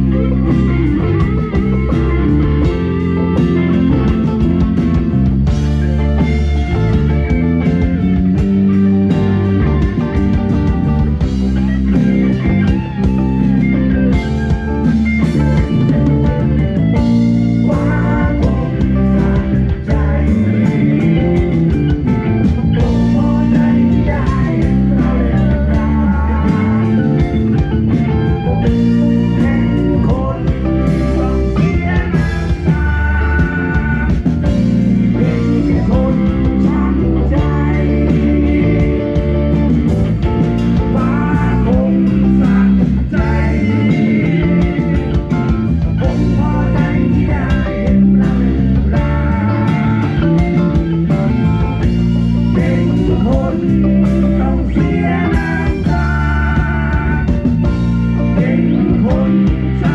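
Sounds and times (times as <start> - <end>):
bass and drums: 0.0 - 59.9
electric guitar: 0.0 - 59.9.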